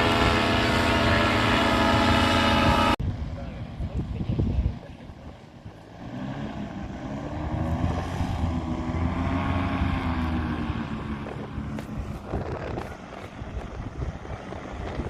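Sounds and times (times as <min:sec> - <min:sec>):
paramotor engine and propeller: 0:00.0 - 0:15.0
wind buffeting microphone: 0:00.0 - 0:15.0.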